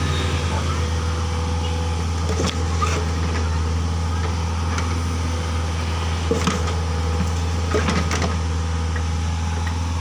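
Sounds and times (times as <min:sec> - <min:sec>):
excavator engine idling: 0:00.0 - 0:10.0.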